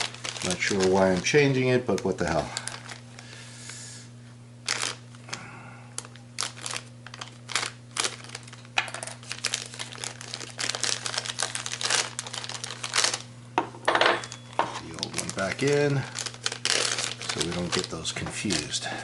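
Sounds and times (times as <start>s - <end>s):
plastic bag crinkling: 0.0s - 3.4s, 4.6s - 5.4s, 6.0s - 13.3s, 14.1s - 19.0s.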